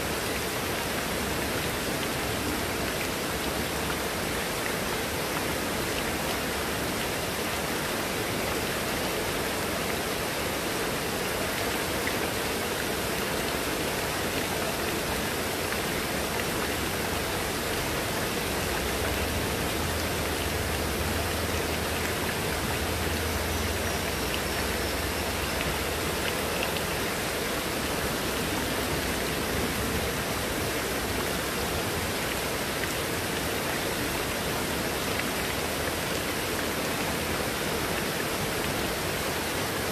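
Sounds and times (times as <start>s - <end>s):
heavy rain on foliage and paving: 0.0s - 39.9s
water streaming off roof edge: 0.0s - 39.9s.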